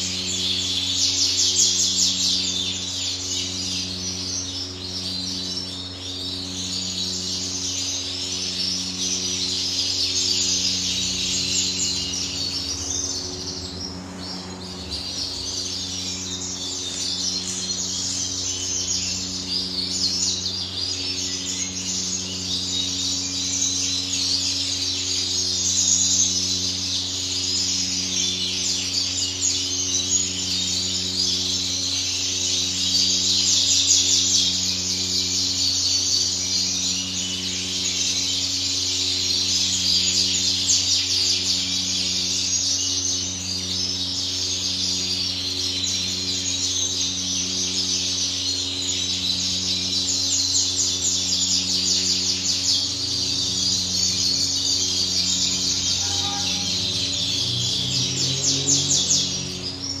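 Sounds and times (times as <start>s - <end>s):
finches chirping and twittering: 0.0s - 60.0s
steady low hum: 0.0s - 60.0s.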